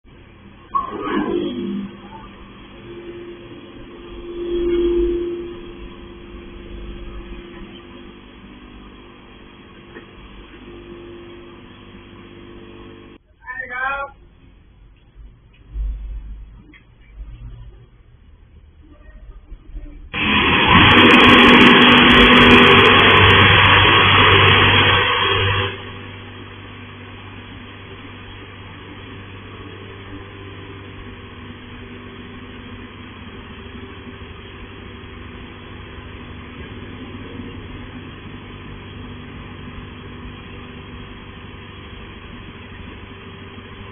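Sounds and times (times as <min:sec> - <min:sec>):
car wash machinery humming: 0:00.0 - 0:43.9.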